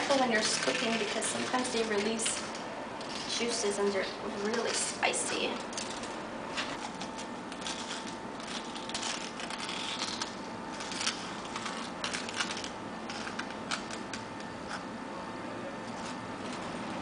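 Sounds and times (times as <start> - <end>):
corer scraping inside a pepper: 0.0 - 14.9.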